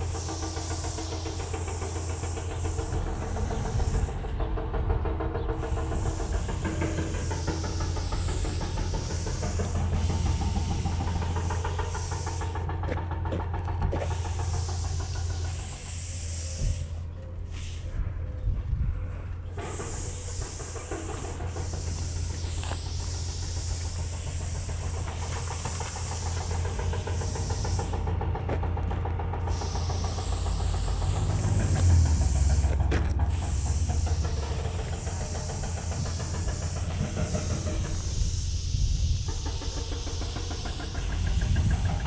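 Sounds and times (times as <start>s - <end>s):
aerosol spray paint hissing: 0.0s - 4.5s, 5.4s - 12.8s, 13.9s - 18.0s, 19.5s - 28.2s, 29.3s - 42.0s.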